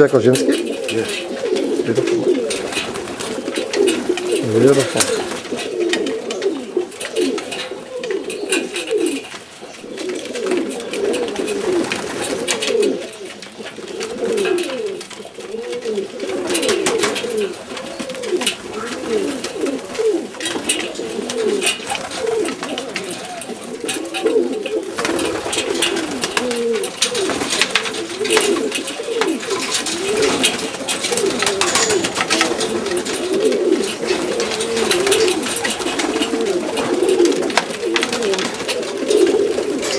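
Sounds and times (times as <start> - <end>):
pigeons cooing: 0.0 - 39.9
scattered clicks: 0.2 - 39.9.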